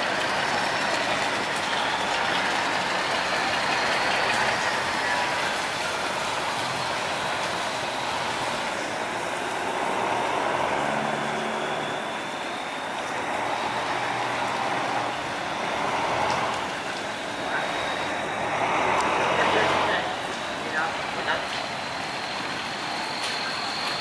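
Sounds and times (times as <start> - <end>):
barge engines droning: 0.0 - 24.0
constant rushing noise: 0.0 - 24.0.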